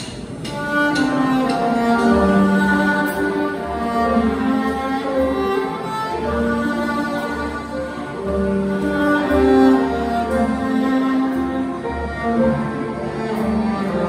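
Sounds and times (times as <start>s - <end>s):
bowed string melody: 0.0s - 14.0s.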